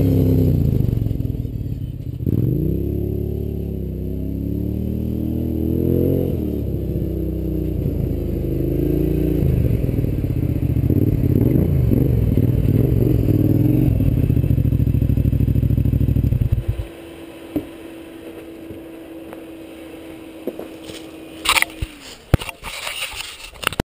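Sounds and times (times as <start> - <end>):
atv engine revving: 0.0 - 22.9.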